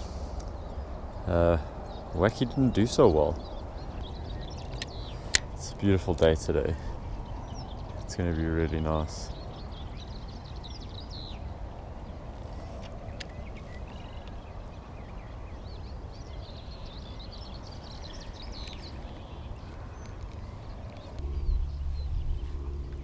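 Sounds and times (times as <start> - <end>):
birds chirping and singing: 0.0 - 23.0
wind rumble on microphone: 0.0 - 23.0.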